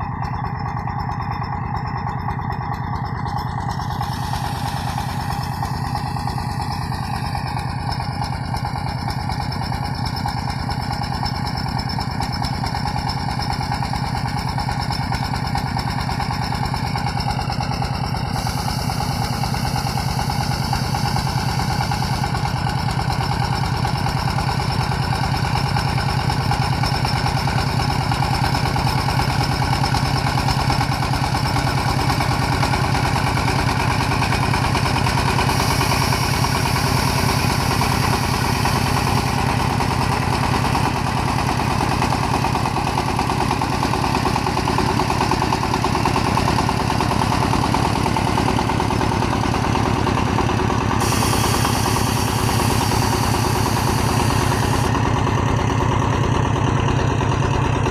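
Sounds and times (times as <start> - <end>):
diesel engine chugging: 0.0 - 57.9.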